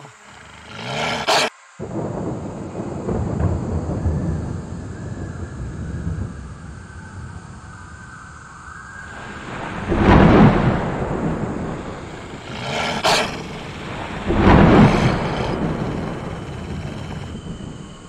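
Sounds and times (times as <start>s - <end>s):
thunder rumble: 0.0s - 18.0s
sharp thunder crack: 0.6s - 8.0s, 9.0s - 18.0s
thunder crashes: 0.6s - 18.0s.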